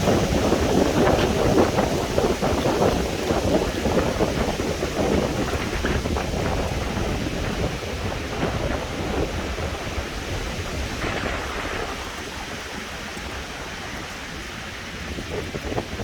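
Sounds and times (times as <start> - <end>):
steady outdoor hiss: 0.0 - 16.0
wind buffeting microphone: 0.0 - 16.0.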